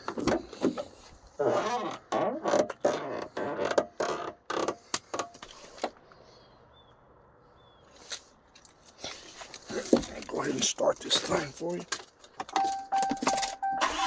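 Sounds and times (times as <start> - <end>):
creaking and rustling in truck cab: 0.0 - 6.2, 7.9 - 14.0.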